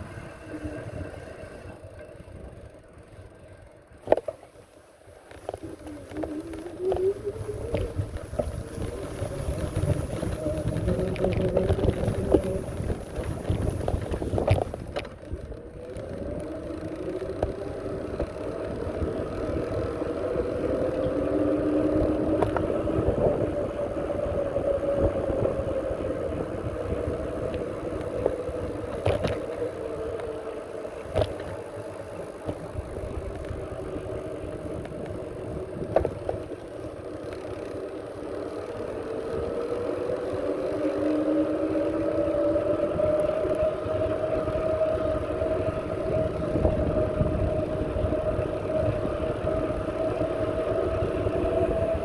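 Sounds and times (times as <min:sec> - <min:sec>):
bicycle whine: 0:00.0 - 0:52.0
wind rumbling on microphone: 0:00.0 - 0:52.0.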